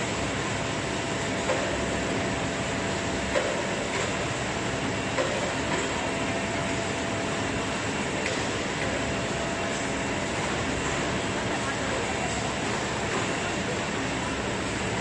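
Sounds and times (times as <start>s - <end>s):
conveyor machine running: 0.0s - 15.0s.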